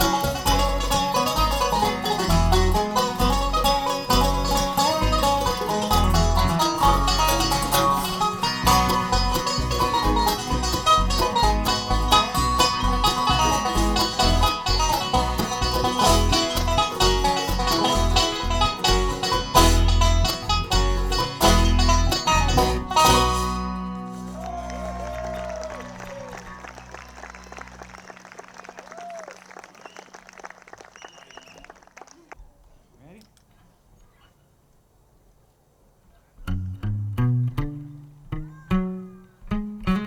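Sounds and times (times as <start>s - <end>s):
bluegrass band playing: 0.0s - 29.0s, 36.5s - 40.0s.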